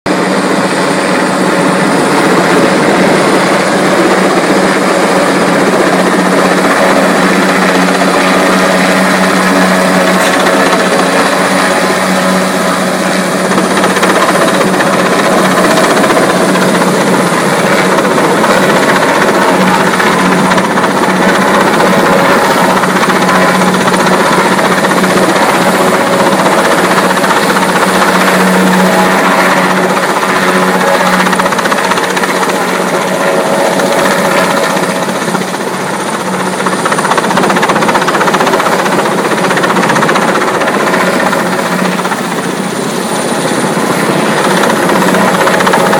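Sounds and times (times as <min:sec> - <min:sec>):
helicopter running close by: 0:00.1 - 0:45.9.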